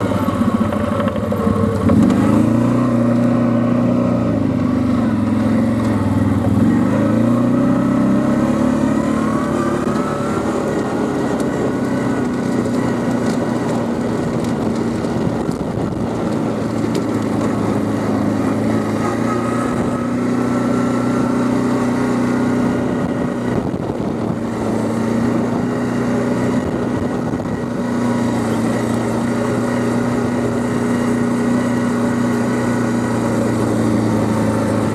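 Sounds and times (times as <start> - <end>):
quad bike engine running: 0.0 - 34.9.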